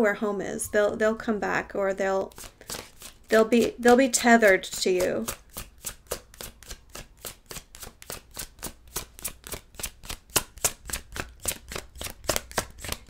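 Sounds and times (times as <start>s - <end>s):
cards being shuffled: 2.2s - 13.0s.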